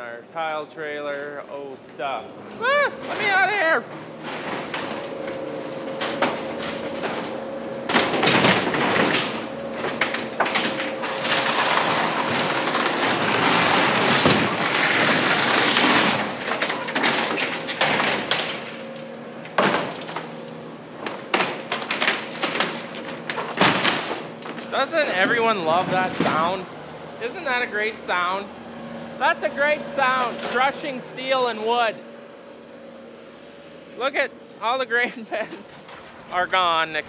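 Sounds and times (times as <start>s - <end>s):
steady machine hum: 0.0s - 37.0s
crushing and scraping steel and wood: 3.0s - 37.0s.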